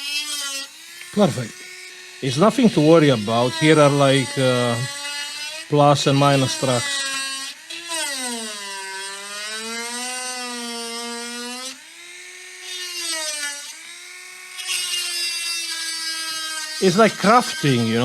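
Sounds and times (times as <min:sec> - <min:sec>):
electric rotary tool whine: 0:00.0 - 0:18.0.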